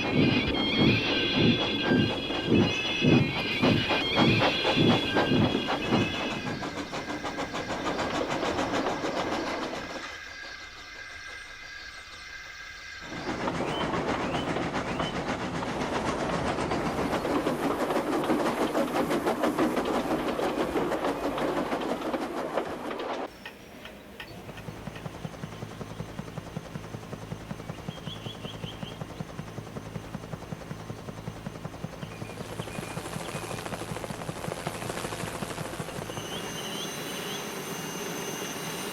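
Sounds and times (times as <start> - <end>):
train wheels clattering: 0.0 - 11.8, 13.0 - 38.9
steam chuffing and hissing: 0.0 - 38.9.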